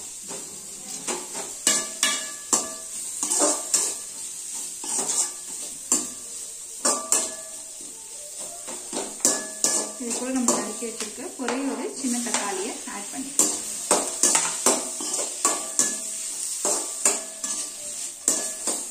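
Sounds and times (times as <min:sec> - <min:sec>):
steady oil sizzle: 0:00.0 - 0:18.9.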